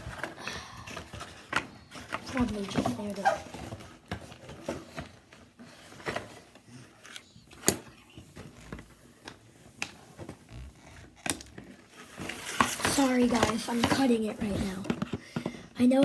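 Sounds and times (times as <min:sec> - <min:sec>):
packaging clicks and rustles: 0:00.0 - 0:16.0.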